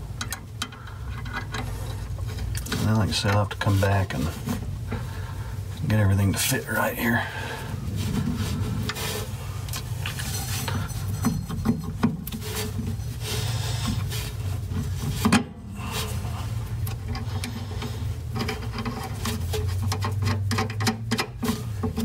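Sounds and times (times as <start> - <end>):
scraping and rubbing handling noise: 0.0 - 22.0
steady low hum: 0.0 - 22.0.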